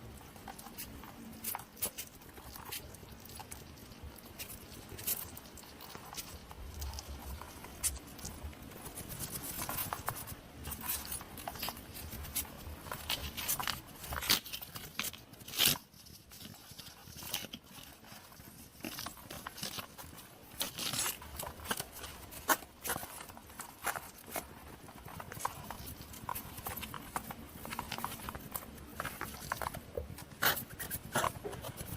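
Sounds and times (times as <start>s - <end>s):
hedgehog clicking and crunching: 0.0s - 31.9s.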